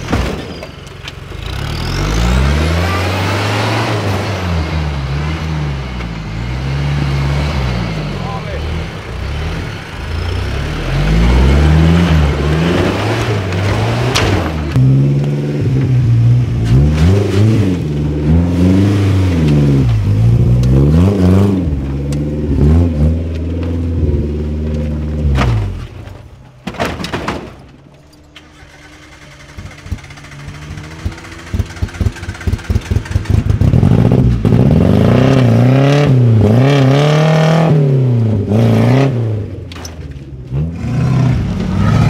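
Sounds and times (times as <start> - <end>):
off-road vehicle engine revving: 1.0 - 26.1, 28.2 - 42.0.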